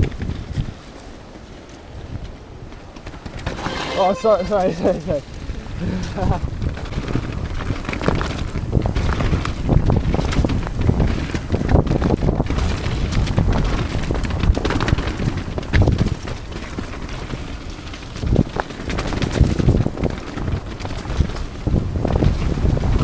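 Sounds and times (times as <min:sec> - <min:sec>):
wind buffeting microphone: 0:00.0 - 0:23.0
bike rattling and knocking: 0:02.8 - 0:23.0.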